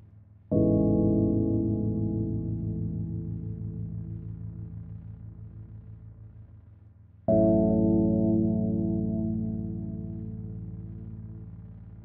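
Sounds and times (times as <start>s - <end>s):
ambient music held chord: 0.5s - 6.5s, 7.3s - 12.0s.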